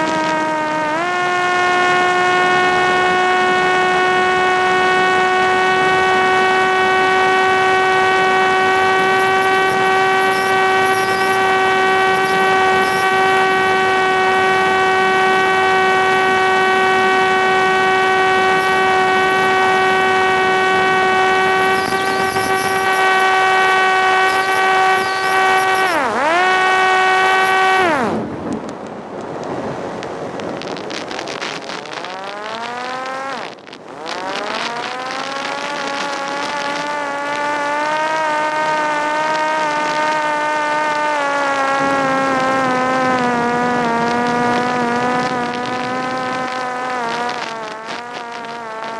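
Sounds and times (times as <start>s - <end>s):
drone electric motor and propeller: 0.0s - 48.9s.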